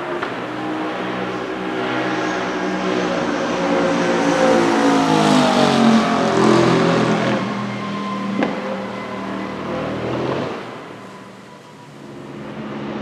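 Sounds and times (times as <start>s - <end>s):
race car passing by: 0.0s - 13.0s.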